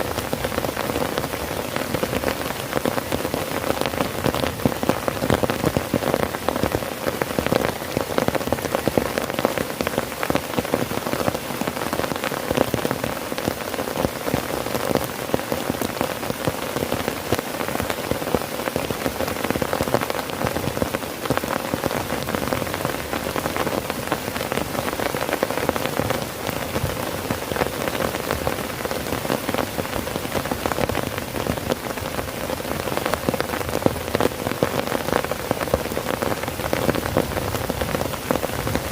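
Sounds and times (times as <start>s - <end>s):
heavy rain on a tent: 0.0s - 38.9s.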